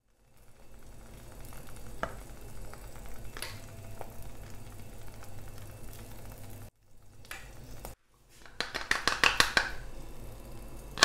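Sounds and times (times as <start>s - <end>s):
low steady hum: 0.1s - 8.2s, 9.7s - 11.0s.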